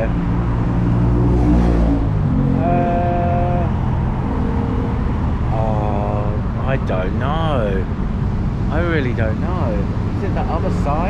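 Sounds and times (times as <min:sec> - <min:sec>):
busy street traffic: 0:00.0 - 0:11.0
heavy vehicle engine rumble: 0:00.0 - 0:11.0.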